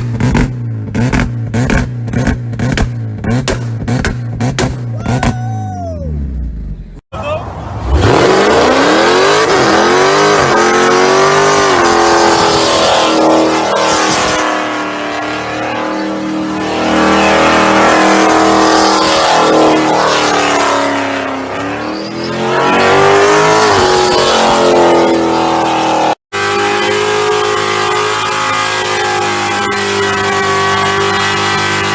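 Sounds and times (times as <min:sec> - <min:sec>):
car engine revving: 0:00.0 - 0:05.4, 0:07.6 - 0:31.9.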